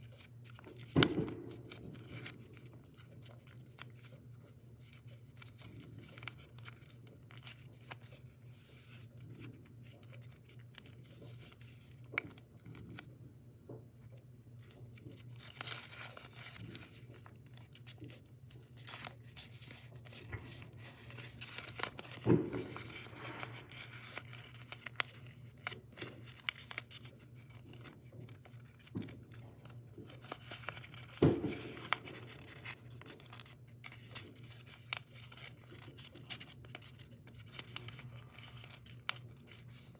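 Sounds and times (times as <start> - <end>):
paper rustling and crinkling: 0.0 - 13.2, 14.0 - 39.9.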